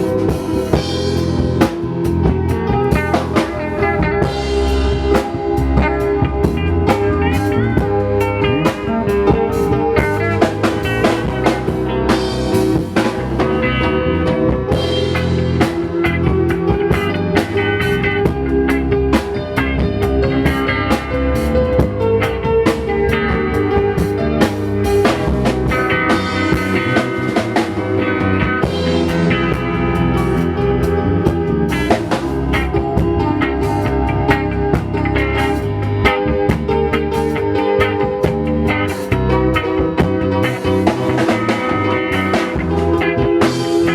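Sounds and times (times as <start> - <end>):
live band playing: 0.0 - 43.9.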